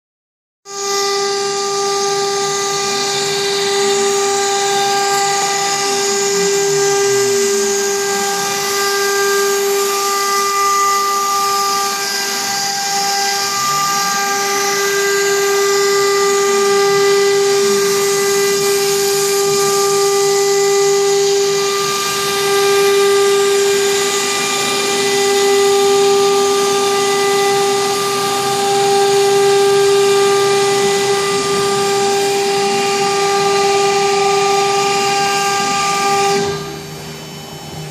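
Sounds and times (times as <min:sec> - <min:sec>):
motor tones sliding: 0:00.7 - 0:37.9
router spindle whining: 0:00.7 - 0:37.9.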